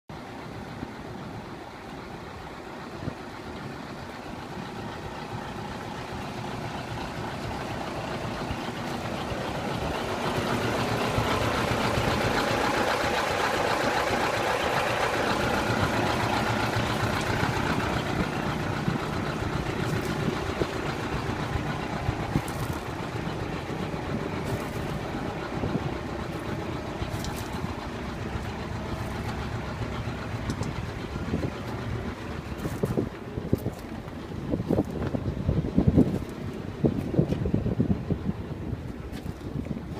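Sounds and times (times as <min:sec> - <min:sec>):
diesel truck engine idling: 0:00.1 - 0:39.9.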